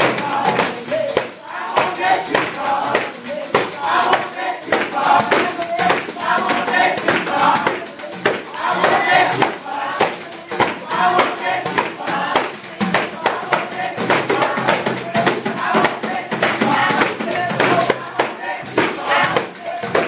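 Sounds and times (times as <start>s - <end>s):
group singing: 0.0s - 20.0s
people clapping: 0.0s - 20.0s
tambourines shaken and struck: 0.0s - 20.0s.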